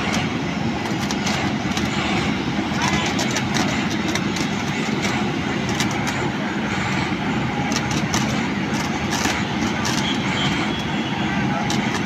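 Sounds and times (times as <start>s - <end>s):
hydraulic rail machine noise: 0.0s - 12.0s.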